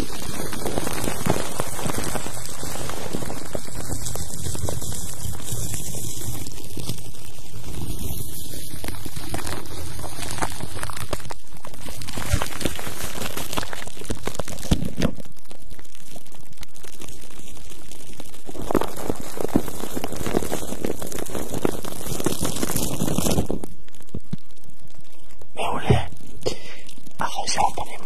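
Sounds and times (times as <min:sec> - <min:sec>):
scrub crinkling on microphone: 0:00.0 - 0:28.0.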